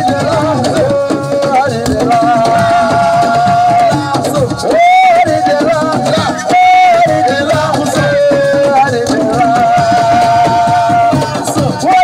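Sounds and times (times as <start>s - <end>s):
hand drums: 0.0s - 12.0s.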